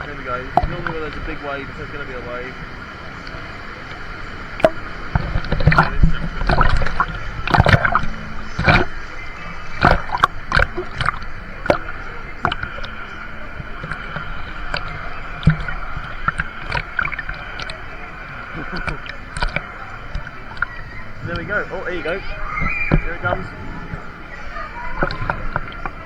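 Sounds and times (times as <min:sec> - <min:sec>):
rushing water: 0:00.0 - 0:26.0
water splashing and sloshing: 0:00.0 - 0:26.0.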